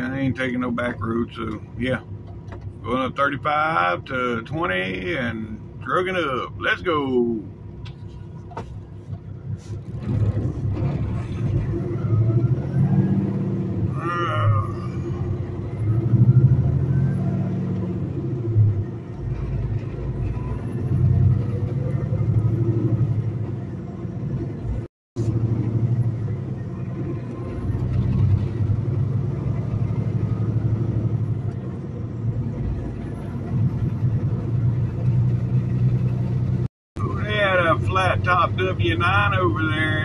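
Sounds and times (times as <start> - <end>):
truck diesel engine accelerating: 0.0 - 40.0.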